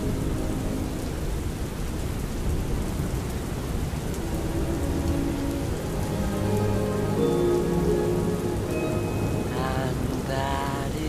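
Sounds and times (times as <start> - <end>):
faint orchestral music: 0.0 - 11.0
heavy rain: 0.0 - 11.0.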